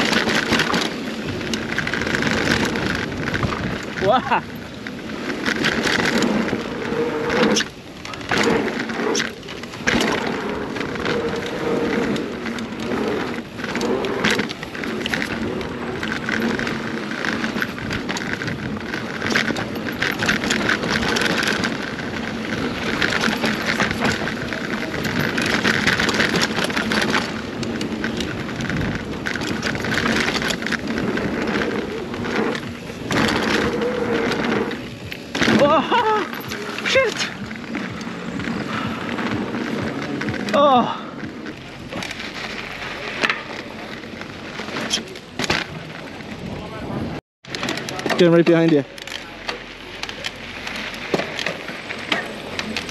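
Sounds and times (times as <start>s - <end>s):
tyre and wind rush: 0.0s - 49.0s
bike clattering over bumps: 0.0s - 52.9s.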